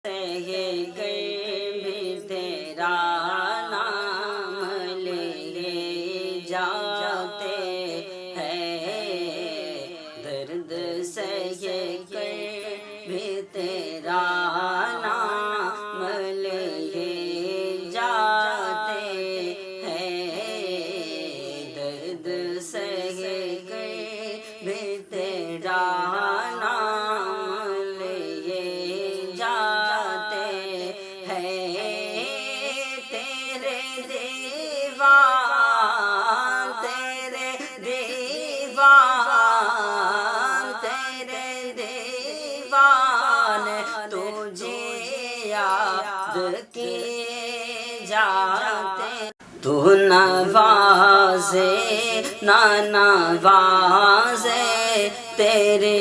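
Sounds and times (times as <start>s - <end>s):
wordless sung melody: 0.0s - 56.0s.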